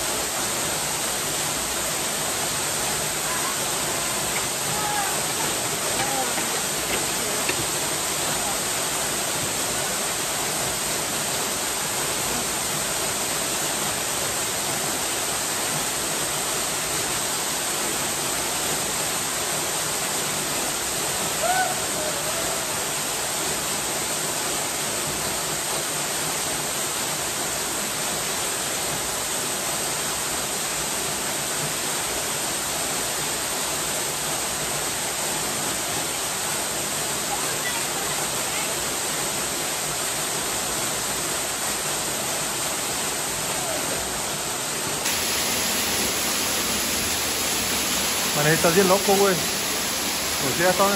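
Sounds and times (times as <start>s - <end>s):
waterfall pouring into pool: 0.0s - 50.9s.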